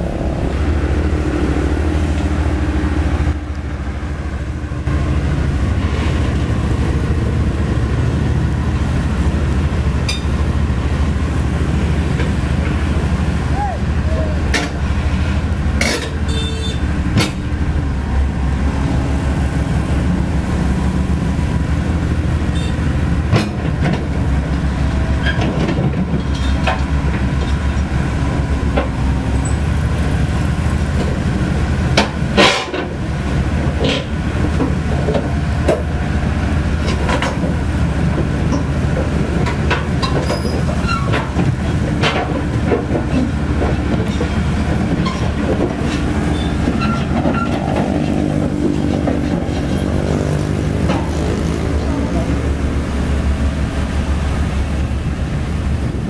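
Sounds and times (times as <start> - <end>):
excavator diesel engine running: 0.0 - 56.0
steel tracks clattering: 0.0 - 56.0.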